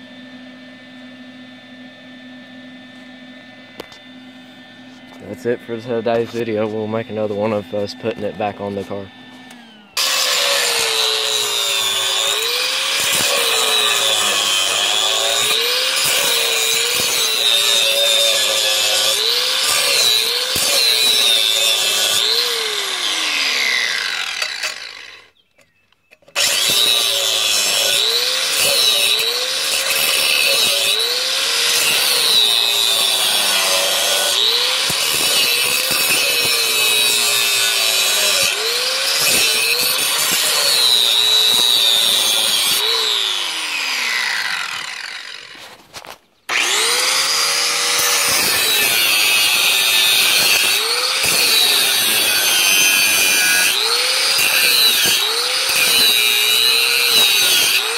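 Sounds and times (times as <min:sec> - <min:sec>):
grinder winding down: 0:01.2 - 0:25.4, 0:26.3 - 0:45.8, 0:46.5 - 0:57.9
angle grinder grinding metal: 0:03.0 - 0:25.4, 0:26.1 - 0:57.9.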